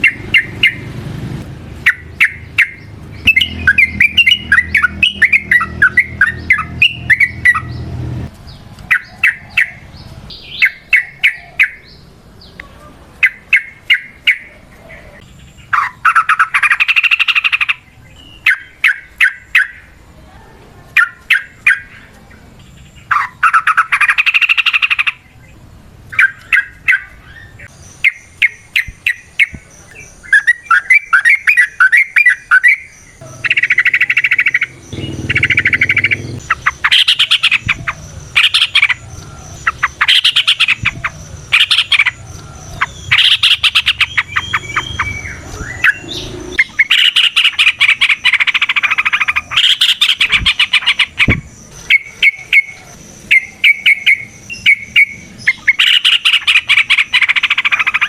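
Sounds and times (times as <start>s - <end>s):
bird chirping: 0.0s - 1.0s, 1.8s - 20.4s, 21.0s - 58.0s.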